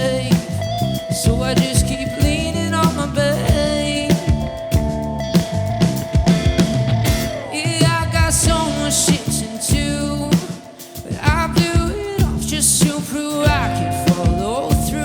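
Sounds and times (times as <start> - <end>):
person singing: 0.0 - 4.8, 7.4 - 15.0
live rock band: 0.0 - 15.0.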